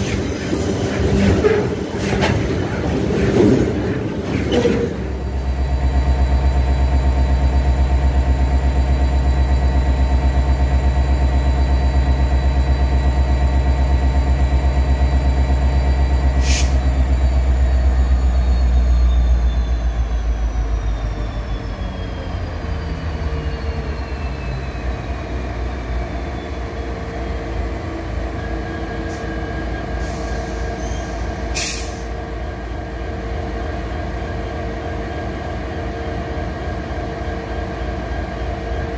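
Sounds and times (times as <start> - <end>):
locomotive engine throbbing: 0.0 - 38.9.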